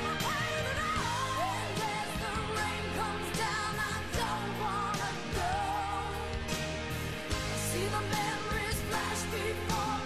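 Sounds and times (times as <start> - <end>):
pop-rock song with full band: 0.0 - 10.0.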